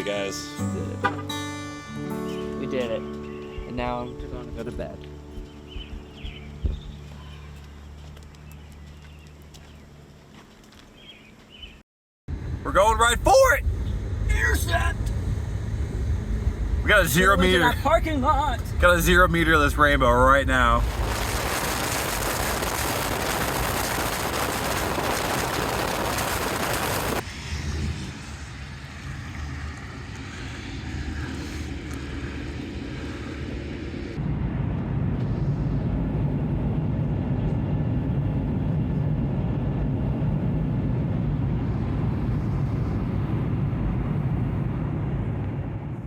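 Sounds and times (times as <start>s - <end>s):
wind and road noise of car: 2.6s - 46.0s.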